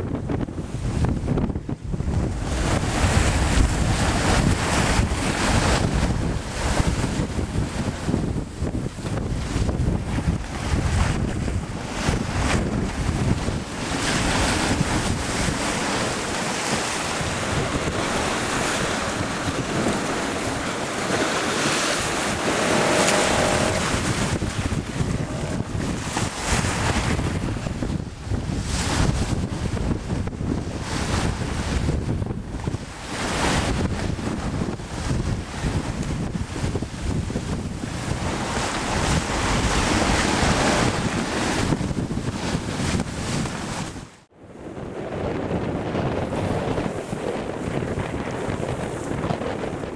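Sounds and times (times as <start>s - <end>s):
sea water rushing along hull: 0.0s - 49.9s
wind on microphone: 0.0s - 49.9s.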